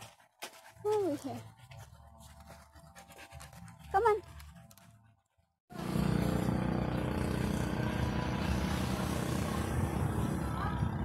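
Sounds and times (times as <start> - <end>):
vehicle engine humming: 0.7 - 11.0.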